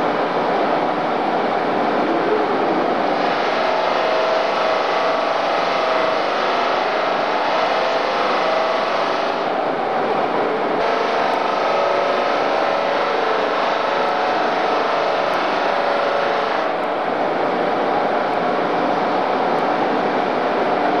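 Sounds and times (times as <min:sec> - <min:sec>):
faint motor whine: 0:00.0 - 0:21.0.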